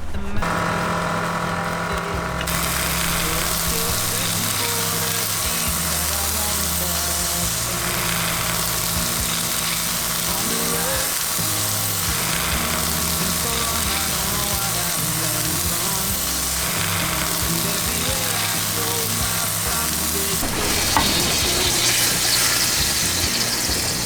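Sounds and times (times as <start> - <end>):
meat sizzling in a pan: 2.5 - 24.0.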